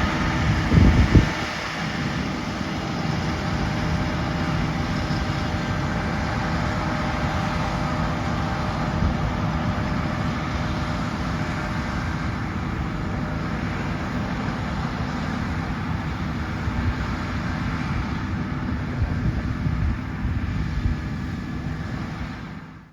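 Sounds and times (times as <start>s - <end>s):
combine harvester droning: 0.0s - 22.9s.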